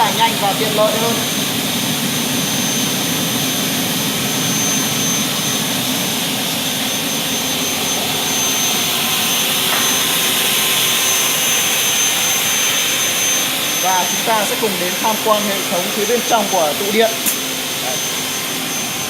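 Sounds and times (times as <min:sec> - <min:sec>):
cutting saw roaring with whine: 0:00.0 - 0:19.0.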